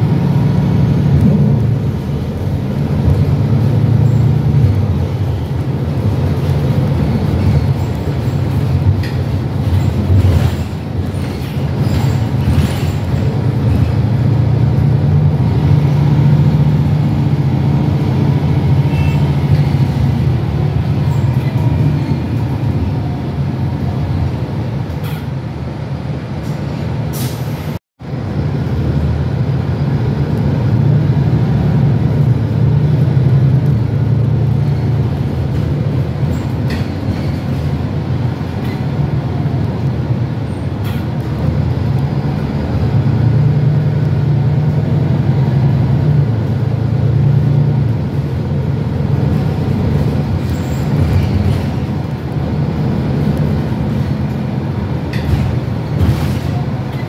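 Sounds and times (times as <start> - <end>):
bus diesel engine accelerating: 0.0 - 57.0.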